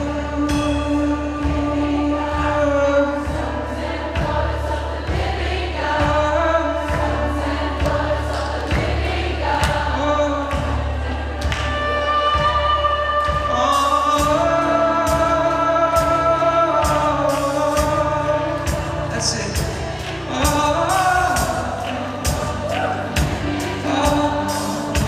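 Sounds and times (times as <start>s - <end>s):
band playing: 0.0s - 25.0s
voices singing: 0.0s - 25.0s.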